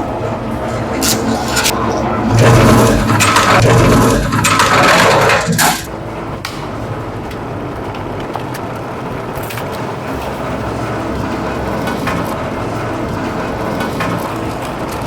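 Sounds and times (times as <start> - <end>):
wire stripping machine running: 0.0 - 15.0.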